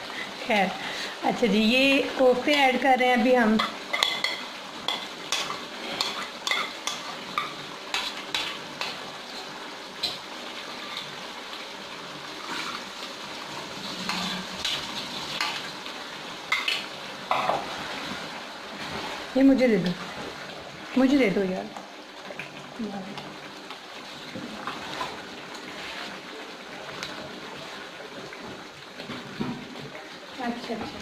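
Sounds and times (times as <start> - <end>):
curry simmering hiss: 0.0 - 31.0.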